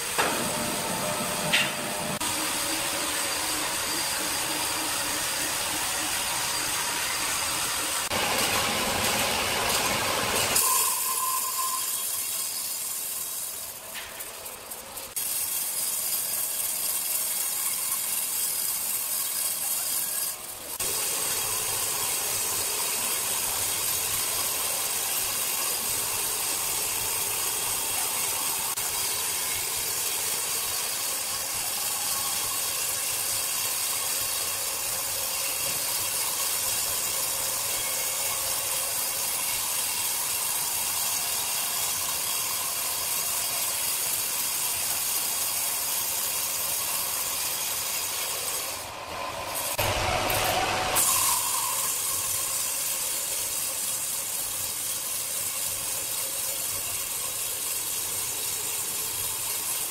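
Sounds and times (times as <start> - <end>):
band saw cutting wood: 0.0 - 59.9
sawmill machine running: 0.0 - 59.9.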